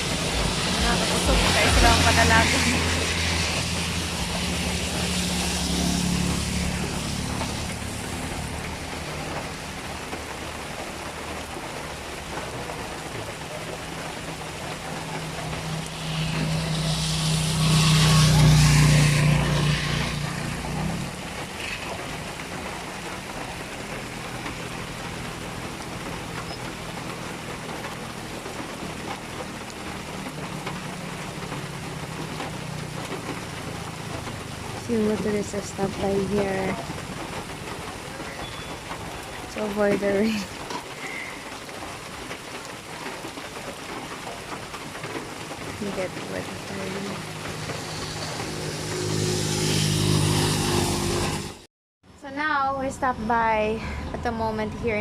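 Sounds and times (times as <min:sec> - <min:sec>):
steady rain falling: 0:00.0 - 0:51.7
vehicles passing on wet road: 0:00.0 - 0:51.7.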